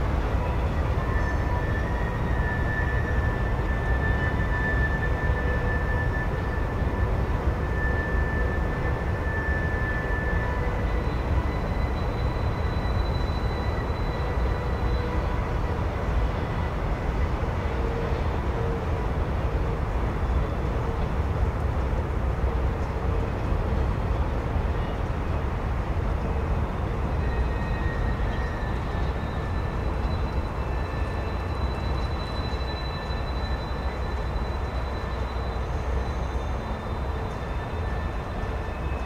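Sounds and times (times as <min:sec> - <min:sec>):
freight train rumbling: 0:00.0 - 0:39.0.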